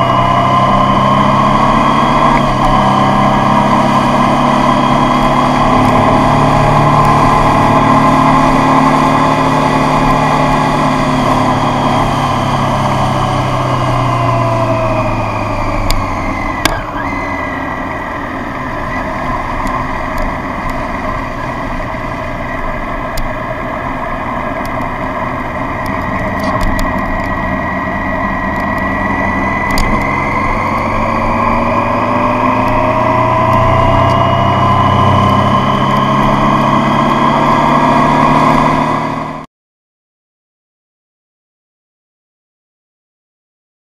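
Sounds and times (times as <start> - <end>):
motorcycle engine: 0.0 - 39.5
wind and road noise: 0.0 - 39.5.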